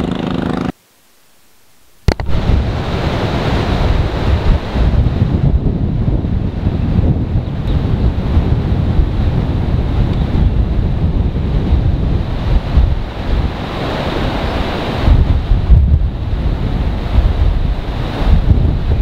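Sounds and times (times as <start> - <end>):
wind buffeting microphone: 2.1 - 19.0.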